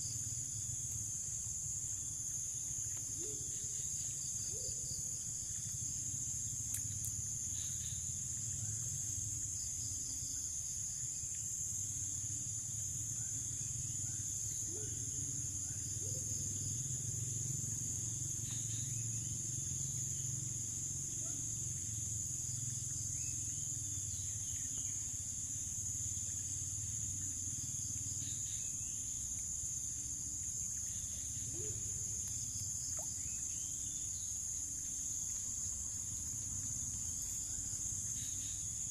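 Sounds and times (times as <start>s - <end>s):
crickets and insects droning: 0.0s - 38.9s.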